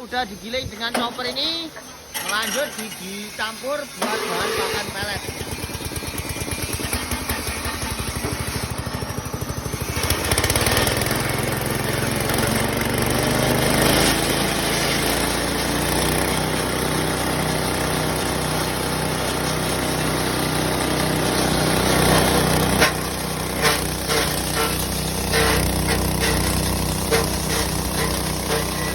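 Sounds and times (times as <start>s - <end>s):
forage chopper engine running: 0.0s - 28.9s.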